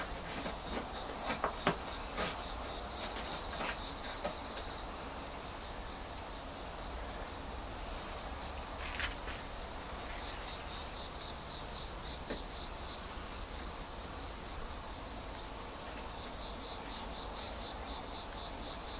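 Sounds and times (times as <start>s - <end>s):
insect chirping: 0.0s - 18.9s.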